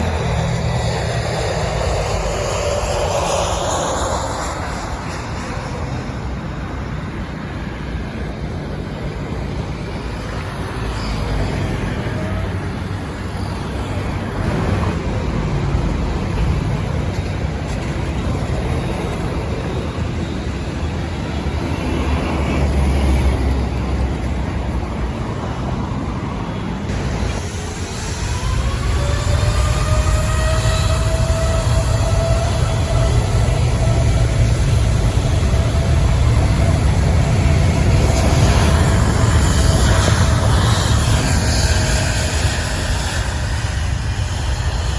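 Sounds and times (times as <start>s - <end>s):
jet engines roaring: 0.0s - 44.9s
road traffic noise: 0.0s - 44.9s.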